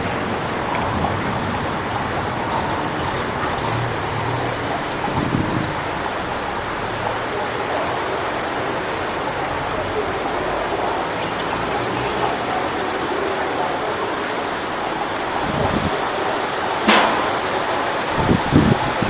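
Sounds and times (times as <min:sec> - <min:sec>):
wind through palm fronds: 0:00.0 - 0:19.0.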